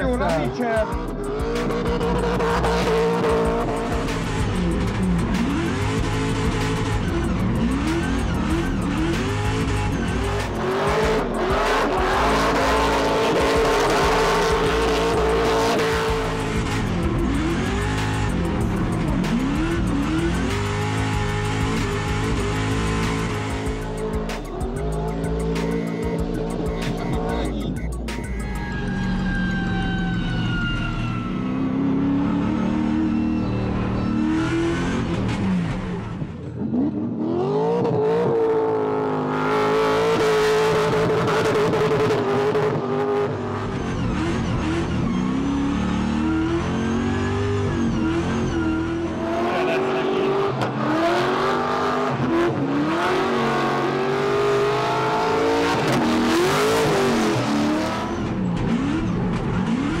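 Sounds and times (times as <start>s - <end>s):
car engine revving: 0.0s - 60.0s.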